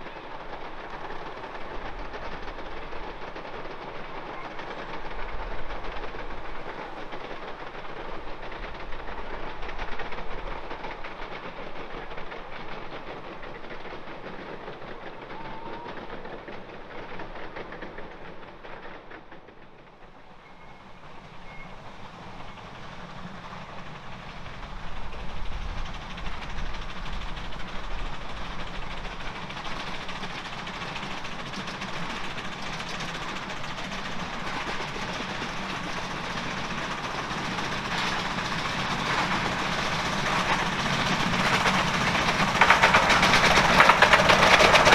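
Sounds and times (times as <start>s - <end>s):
steam locomotive approaching: 0.0s - 44.9s
train wheels clattering over rails: 0.0s - 44.9s.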